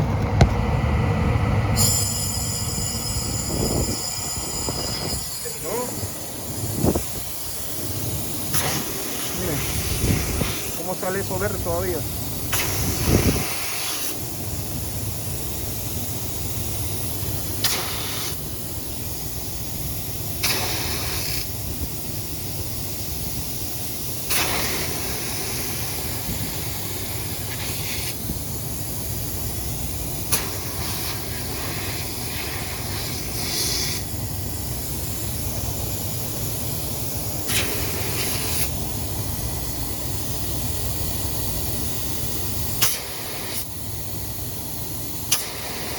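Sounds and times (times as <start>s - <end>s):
gas hissing in bursts: 1.7s - 45.9s.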